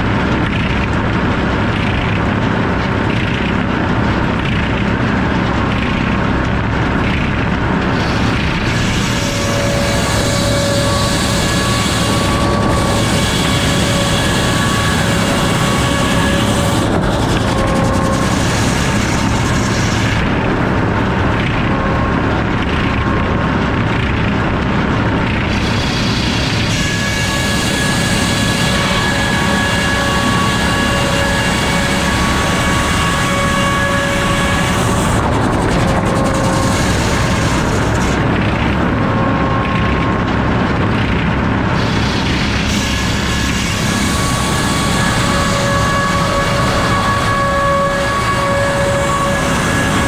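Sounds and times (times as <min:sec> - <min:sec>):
circular saw whining: 0:00.0 - 0:50.0.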